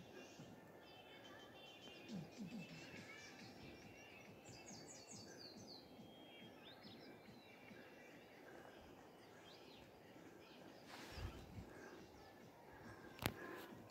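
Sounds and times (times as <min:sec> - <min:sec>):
birds singing: 0:00.0 - 0:13.9
quiet outdoor noise: 0:00.0 - 0:13.9.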